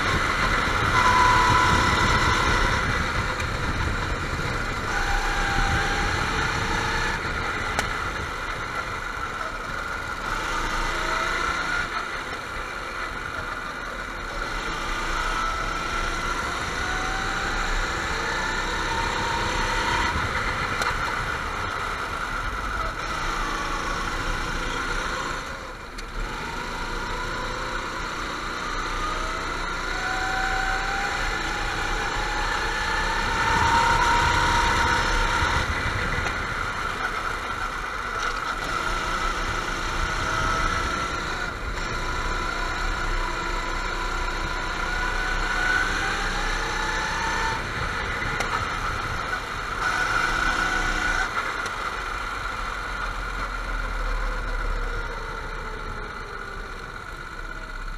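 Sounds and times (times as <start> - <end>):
go-kart engines whining: 0.0 - 57.9.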